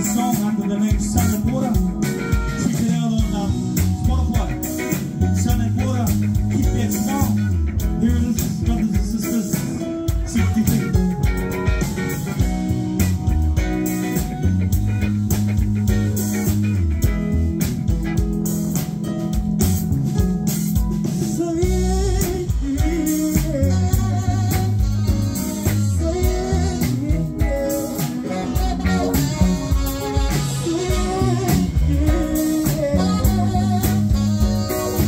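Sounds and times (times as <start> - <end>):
bass guitar: 0.0 - 35.0
drums: 0.0 - 35.0
electric guitar: 0.0 - 35.0.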